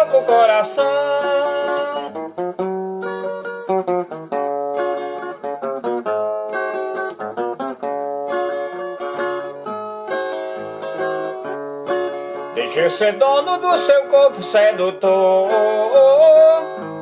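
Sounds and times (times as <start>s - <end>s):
plucked acoustic string melody: 0.0s - 17.0s.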